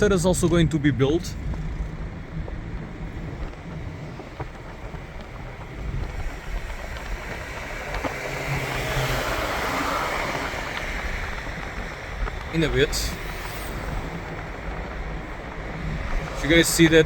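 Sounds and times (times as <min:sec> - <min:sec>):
vehicle rumble and engine hum: 0:00.0 - 0:17.0
wind buffeting microphone: 0:00.0 - 0:17.0.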